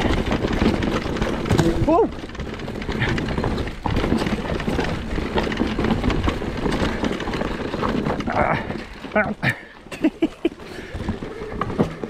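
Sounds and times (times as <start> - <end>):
bike clicks and rattles: 0.0 - 12.0
mountain bike rumbling on dirt: 0.0 - 12.0.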